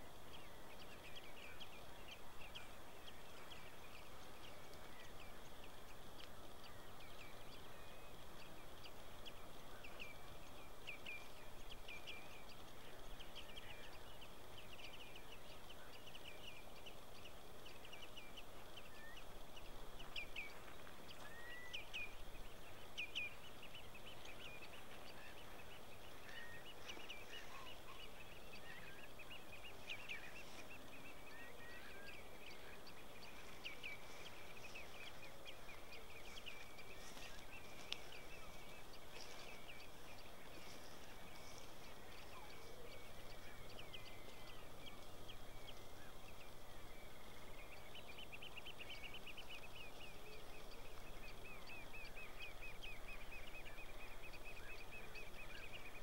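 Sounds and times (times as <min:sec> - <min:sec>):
birds chirping: 0:00.0 - 0:56.0
faint steady hiss: 0:00.0 - 0:56.0.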